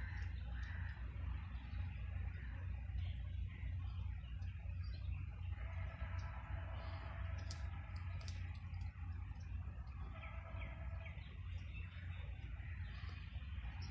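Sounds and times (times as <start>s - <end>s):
small birds chirping: 0.0s - 13.9s
steady low rumble: 0.0s - 13.9s.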